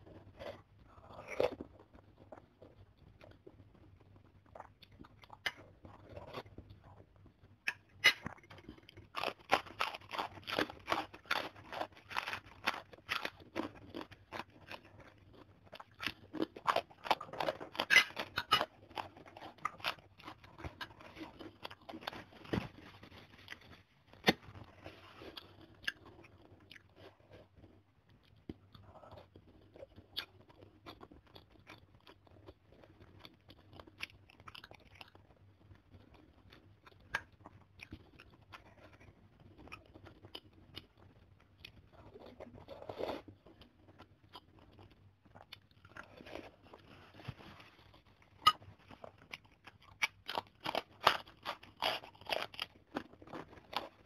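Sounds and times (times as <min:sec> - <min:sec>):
crunching and chewing crisp cracker: 0:00.0 - 0:54.0.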